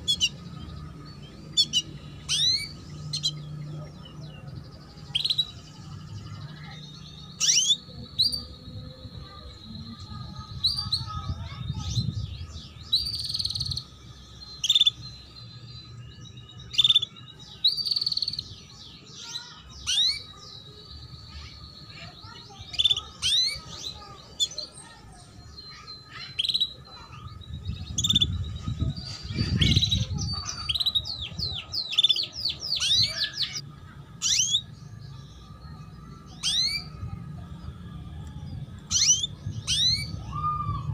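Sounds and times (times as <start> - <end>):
canary chirping: 0.0 - 37.1, 38.8 - 40.2.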